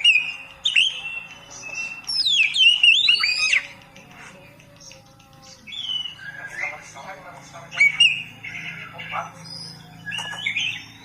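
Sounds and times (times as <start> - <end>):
bird singing whistled notes: 0.0 - 3.8, 4.8 - 7.1, 7.7 - 11.0.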